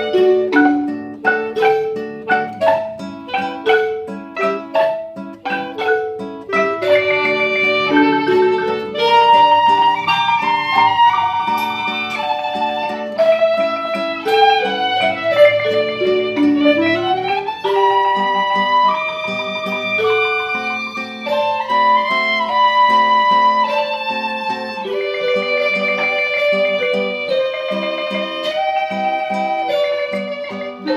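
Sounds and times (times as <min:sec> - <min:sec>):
plucked string music: 0:00.0 - 0:30.9.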